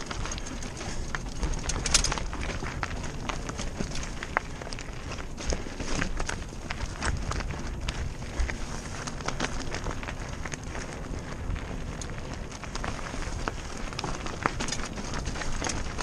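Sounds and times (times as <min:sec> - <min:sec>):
bike clicks and rattles: 0:00.0 - 0:16.0
low rumble: 0:00.0 - 0:16.0
tyres crunching over gravel: 0:00.0 - 0:16.0.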